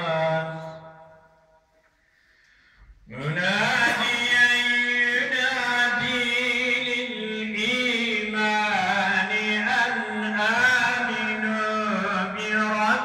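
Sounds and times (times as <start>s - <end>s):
man chanting recitation: 0.0s - 1.3s, 3.0s - 13.0s.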